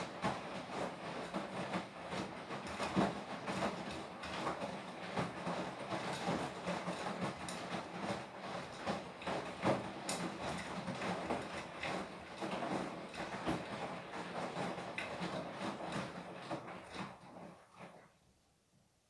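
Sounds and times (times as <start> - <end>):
water sloshing and thudding: 0.0 - 18.2
washing machine motor hum: 0.0 - 18.7.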